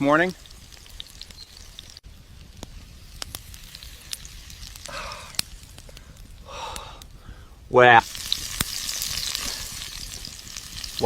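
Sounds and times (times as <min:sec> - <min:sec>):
crackles and pops of frying: 0:00.0 - 0:11.0
faint sizzling hiss: 0:00.0 - 0:11.0
soft rushes of sizzle: 0:00.0 - 0:11.0.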